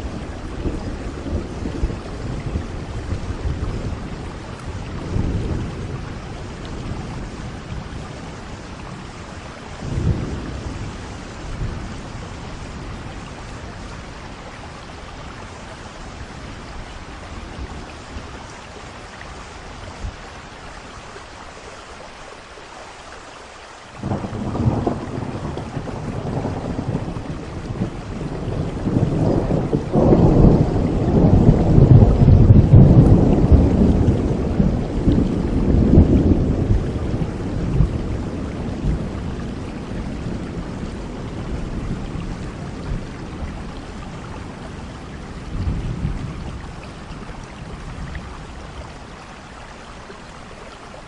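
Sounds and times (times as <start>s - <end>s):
rolling thunder rumbles: 0.0s - 18.6s, 24.0s - 49.3s
steady rain falling: 0.0s - 51.0s.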